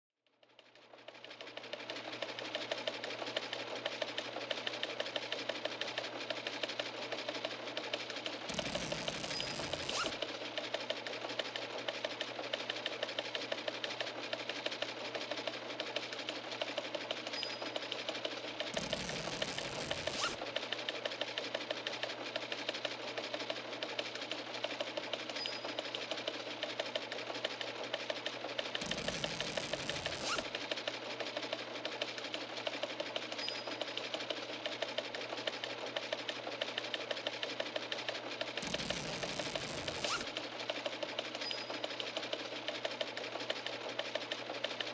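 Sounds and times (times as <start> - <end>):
rapid mechanical clicking: 0.4 - 44.9.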